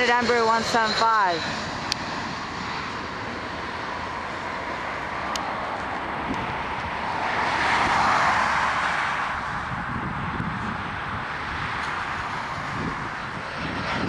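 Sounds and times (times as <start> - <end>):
jet passing with rushing roar: 0.0 - 14.0.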